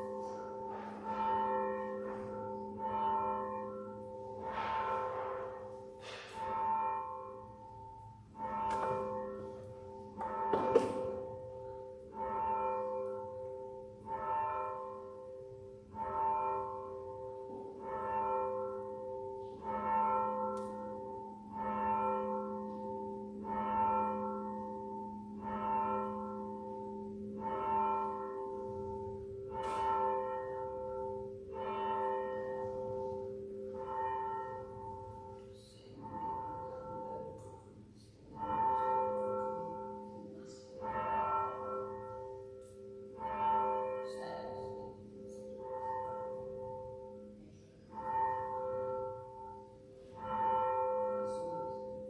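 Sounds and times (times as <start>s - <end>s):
church bell tolling: 0.0s - 52.0s.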